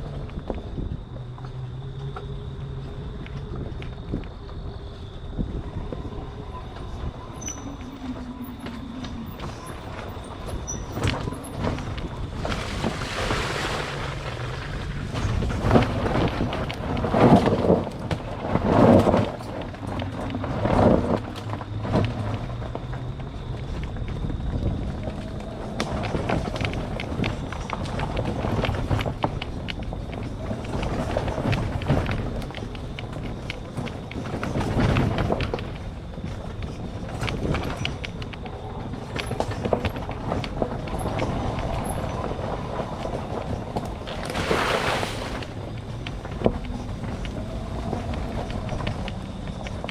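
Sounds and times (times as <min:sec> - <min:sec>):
tyres crunching over rough ground: 0:06.7 - 0:49.9.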